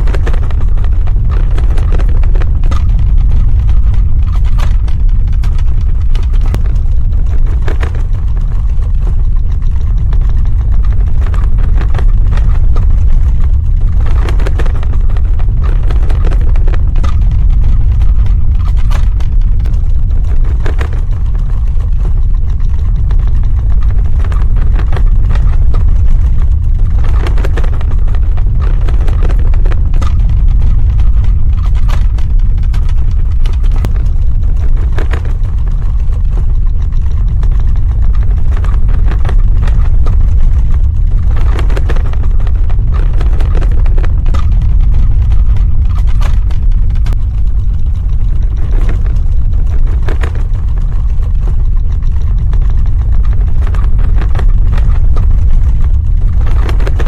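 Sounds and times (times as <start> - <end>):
crackles and rattles: 0.0 - 57.0
deep earthquake rumble: 0.0 - 57.0.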